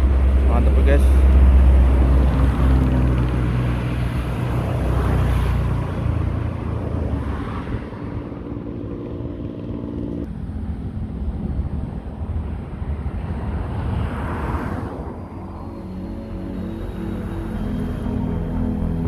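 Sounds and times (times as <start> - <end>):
vehicle engine running: 0.0 - 13.6, 15.2 - 19.0
wind: 0.0 - 19.0.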